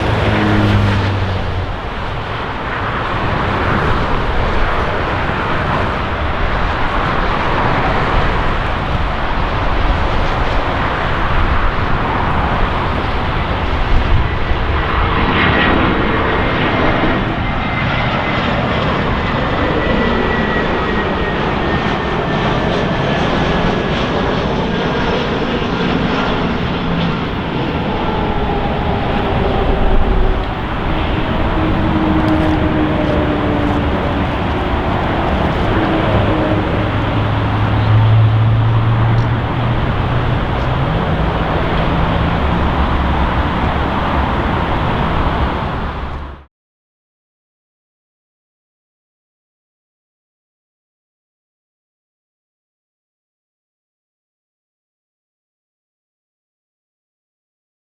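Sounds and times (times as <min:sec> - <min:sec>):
high jet engine whine: 0:00.0 - 0:46.5
jet engines rumbling: 0:00.0 - 0:46.5.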